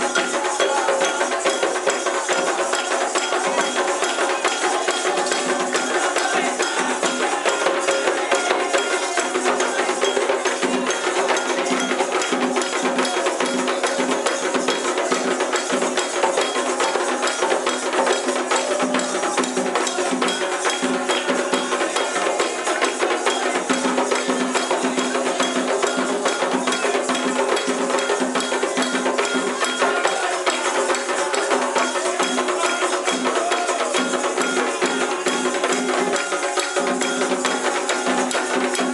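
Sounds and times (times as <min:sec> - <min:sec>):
hand drums playing: 0:00.0 - 0:38.9
metal bell pattern: 0:00.0 - 0:38.9.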